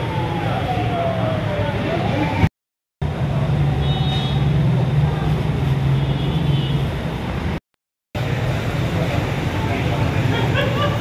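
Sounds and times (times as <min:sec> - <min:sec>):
street traffic: 0:00.0 - 0:07.6, 0:08.2 - 0:11.0.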